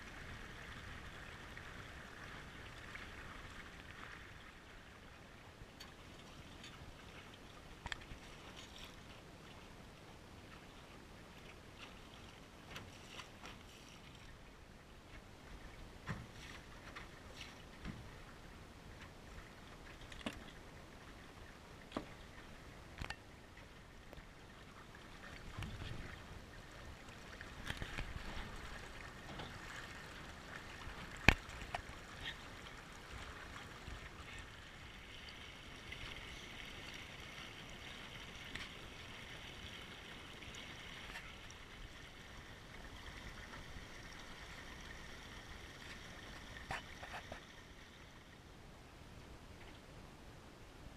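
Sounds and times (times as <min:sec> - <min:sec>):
water gurgling along boat hull: 0:00.0 - 0:48.6.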